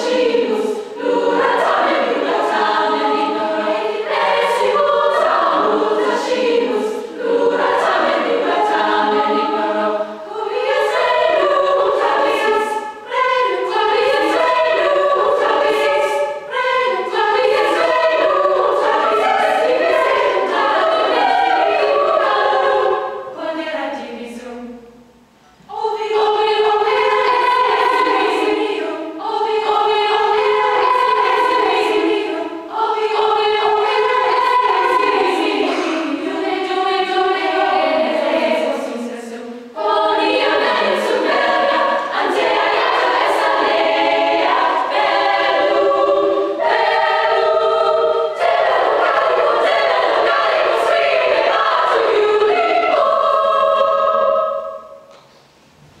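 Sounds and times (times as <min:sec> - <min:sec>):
female choir singing: 0:00.0 - 0:25.0, 0:25.7 - 0:55.2.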